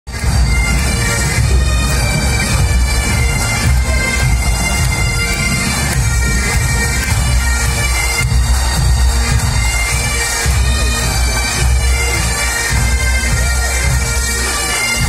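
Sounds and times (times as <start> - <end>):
bagpipes playing over drones: 0.1 - 15.0.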